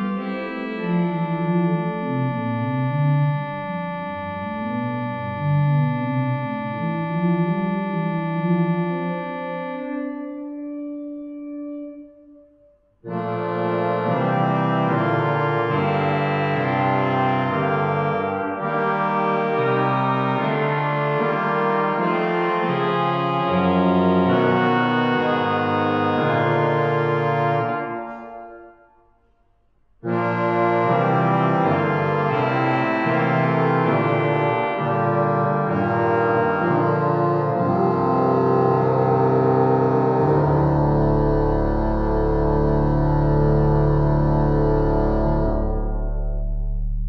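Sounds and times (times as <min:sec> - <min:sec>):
pipe organ chords: 0:00.0 - 0:29.0, 0:30.0 - 0:47.0.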